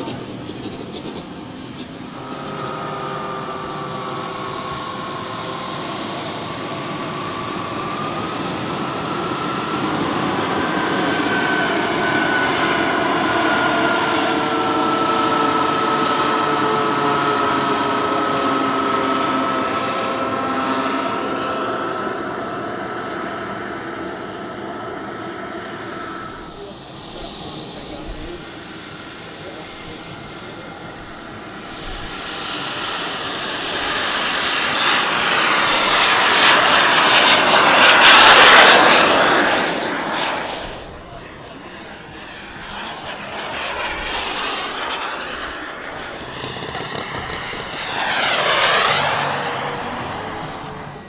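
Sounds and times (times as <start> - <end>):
model jet turbine whining: 0.0 - 51.0.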